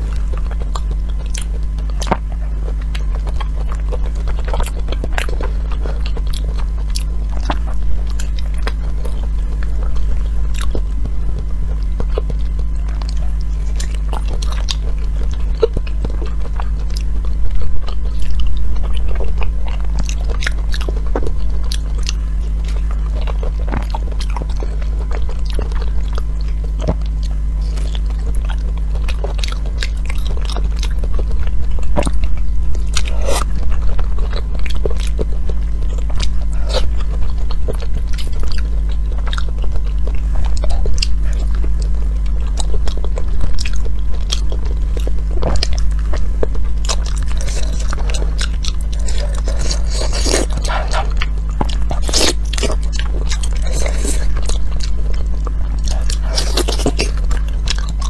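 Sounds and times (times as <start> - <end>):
low hum: 0.0 - 58.0
wet chewing and smacking: 0.0 - 58.0.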